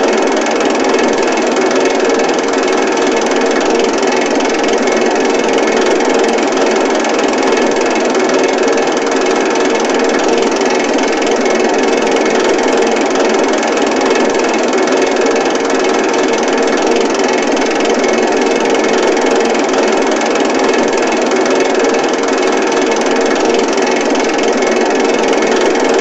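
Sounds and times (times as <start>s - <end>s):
machine running with steady hum: 0.0s - 26.0s.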